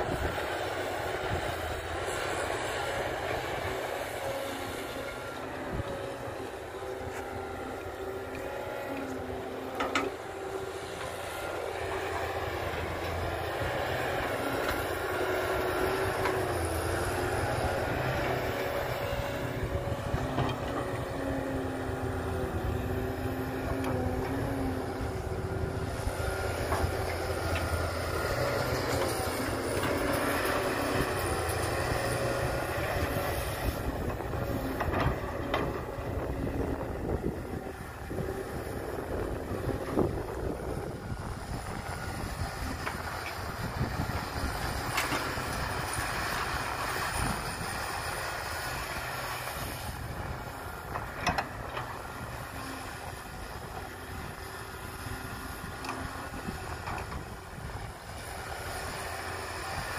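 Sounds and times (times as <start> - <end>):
excavator diesel engine and hydraulics: 0.0 - 59.9.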